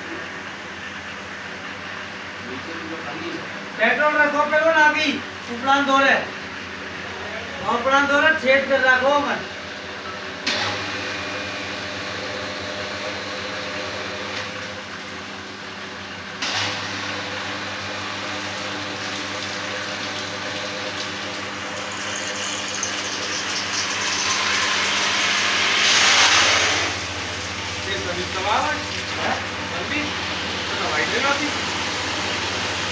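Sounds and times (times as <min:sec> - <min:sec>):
motor hum: 0:00.0 - 0:32.9.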